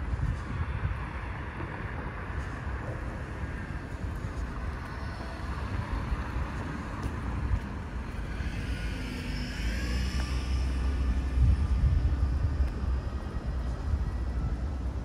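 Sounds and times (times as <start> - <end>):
street traffic: 0.0 - 15.0
wind rumble on microphone: 0.0 - 15.0.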